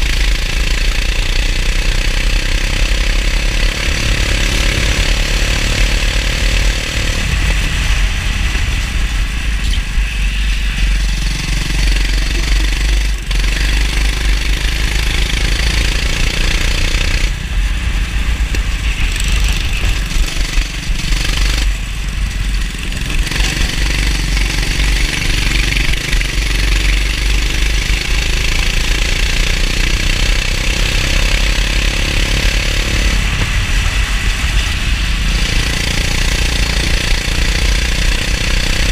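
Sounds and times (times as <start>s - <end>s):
kart engine running hard: 0.0s - 38.9s.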